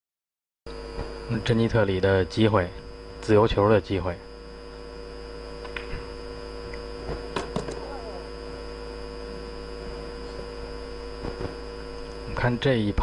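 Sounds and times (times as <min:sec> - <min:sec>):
steady electrical hum: 0:00.7 - 0:13.0.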